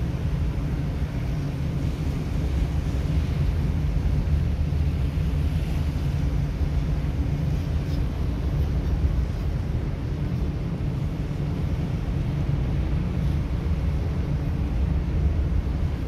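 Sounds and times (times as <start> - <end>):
ship machinery rumble: 0.0 - 16.0
wind on microphone: 0.0 - 16.0.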